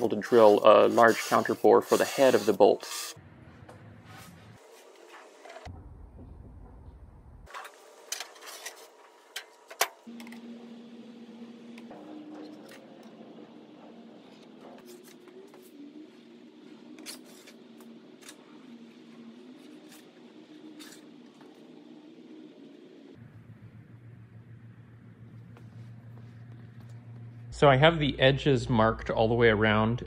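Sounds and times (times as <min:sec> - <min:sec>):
faint steady hum: 0:05.4 - 0:30.0.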